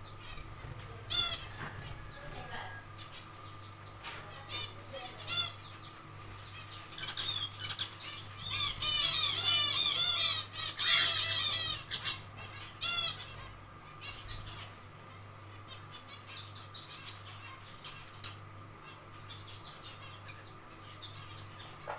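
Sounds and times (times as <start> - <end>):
finches calling and chattering: 0.0 - 21.9.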